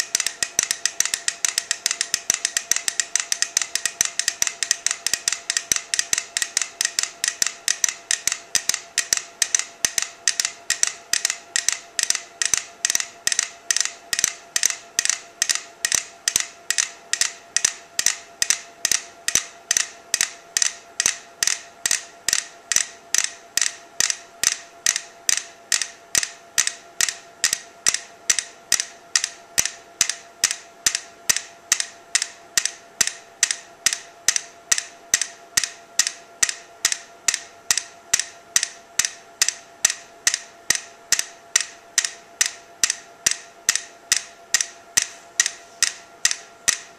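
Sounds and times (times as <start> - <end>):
metronomes ticking: 0.0 - 45.6.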